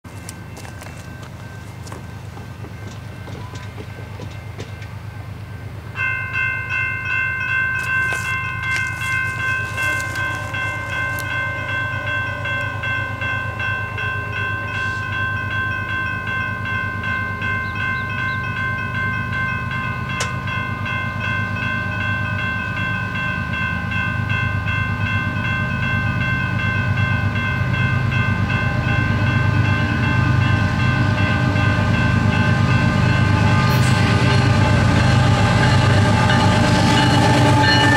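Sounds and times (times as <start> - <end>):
railroad crossing bell ringing: 0.0 - 37.9
diesel locomotive rumble: 0.1 - 37.9.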